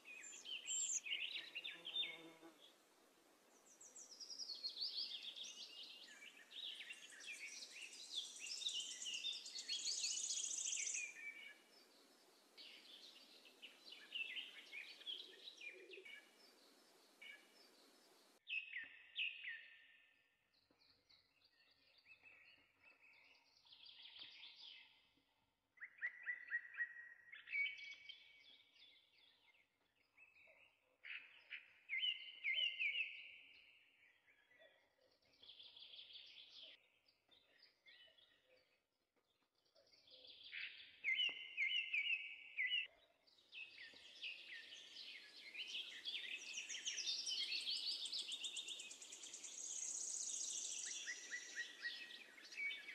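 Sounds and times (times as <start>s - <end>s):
small birds chirping: 0.0s - 2.8s, 3.4s - 52.9s.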